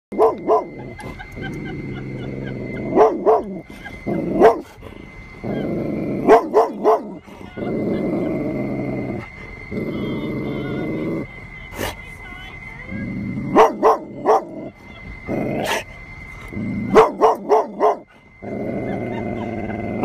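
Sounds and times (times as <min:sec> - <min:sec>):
dog growling: 0:00.1 - 0:12.0, 0:12.9 - 0:20.0.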